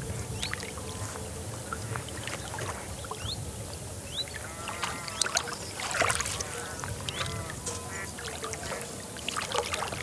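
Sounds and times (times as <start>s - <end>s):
water lapping around hull: 0.0s - 10.0s.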